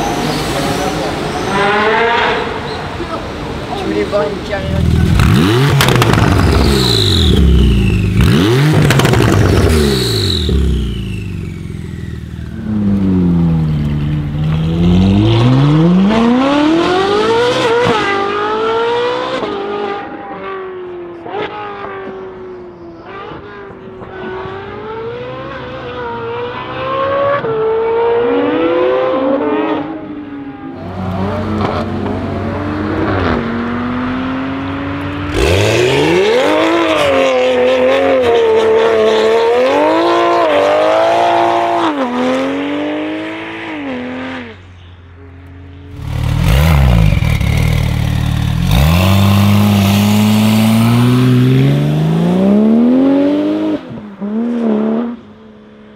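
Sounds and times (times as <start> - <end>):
car engine revving: 0.0 - 22.1, 23.0 - 44.6, 45.9 - 55.4.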